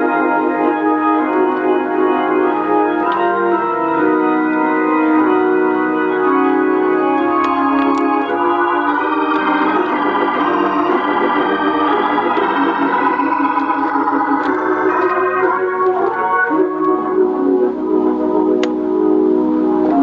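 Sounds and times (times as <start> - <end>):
organ playing gospel: 0.0 - 20.0.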